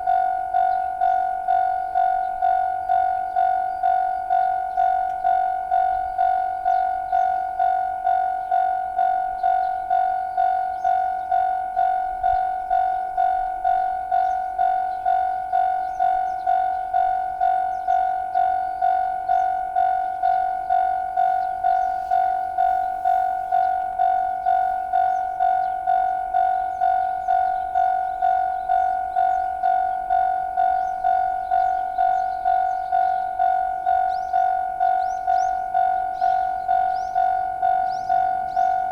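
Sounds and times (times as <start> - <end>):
level crossing bell ringing: 0.0 - 38.9.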